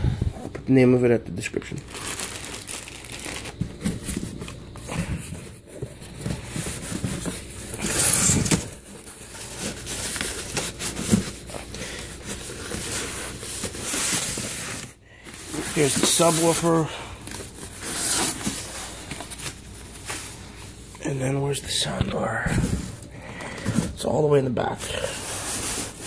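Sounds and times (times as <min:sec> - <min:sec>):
cardboard and packing rustling: 0:00.0 - 0:26.0.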